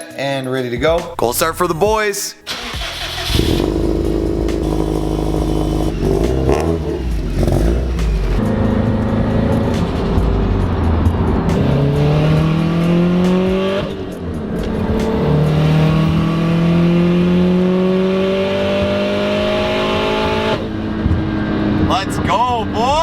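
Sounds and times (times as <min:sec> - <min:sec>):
car engine accelerating: 0:02.5 - 0:23.0.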